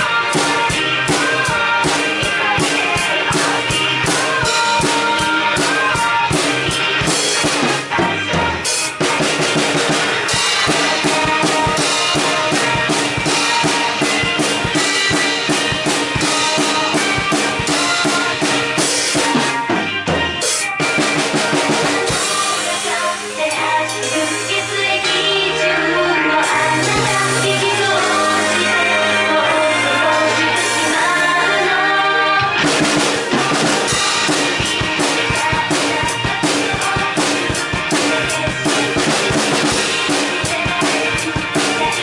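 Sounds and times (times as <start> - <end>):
music with drum-kit beat: 0.0 - 42.0.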